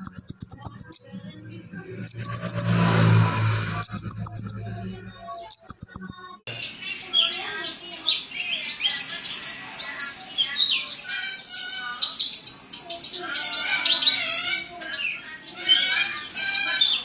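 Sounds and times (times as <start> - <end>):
bird song with high chirps and trills: 0.0 - 17.0.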